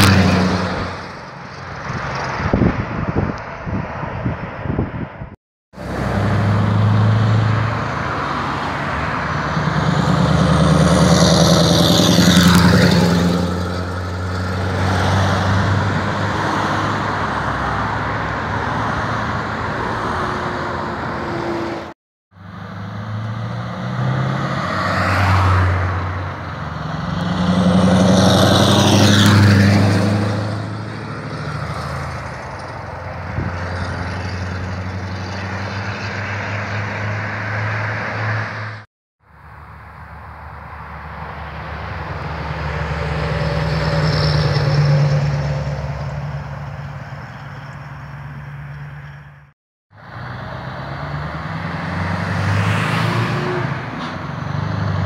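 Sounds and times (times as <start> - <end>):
truck exhaust drone passing: 5.8 - 55.0.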